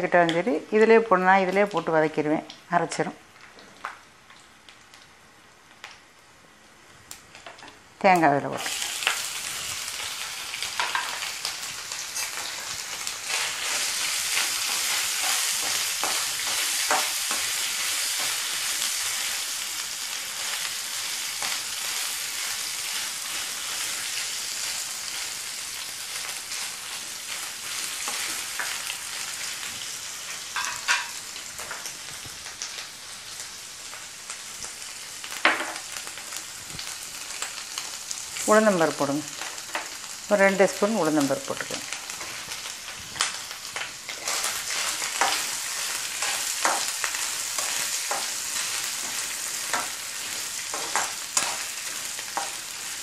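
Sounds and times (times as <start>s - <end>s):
food sizzling in oil: 7.1s - 53.0s.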